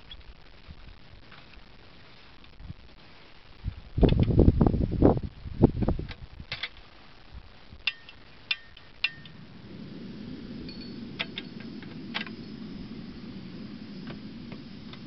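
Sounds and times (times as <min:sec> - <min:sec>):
low burner flame noise: 0:00.0 - 0:15.0.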